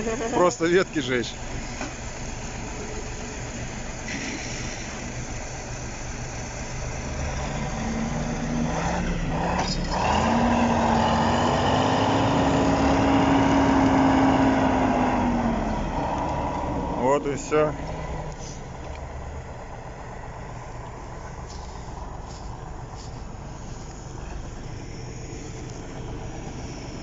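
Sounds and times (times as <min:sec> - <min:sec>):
diesel tractor engine revving: 0:00.0 - 0:27.0.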